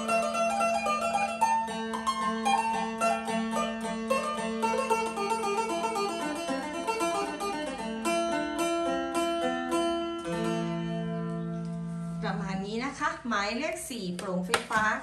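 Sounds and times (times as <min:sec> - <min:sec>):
amplified lute picked quickly: 0:00.0 - 0:12.2.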